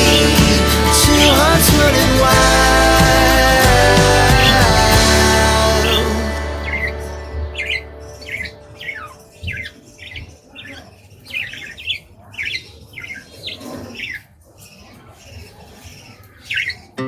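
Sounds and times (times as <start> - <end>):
budgies squawking and chirping: 0.0 - 17.0.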